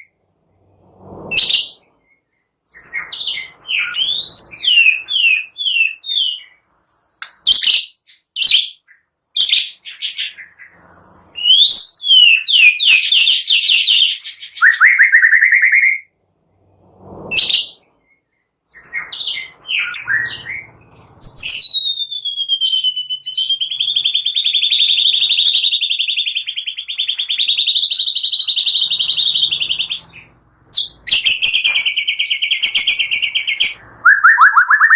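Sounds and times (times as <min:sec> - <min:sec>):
bird whistled song phrases: 0:01.3 - 0:16.1, 0:18.7 - 0:34.9.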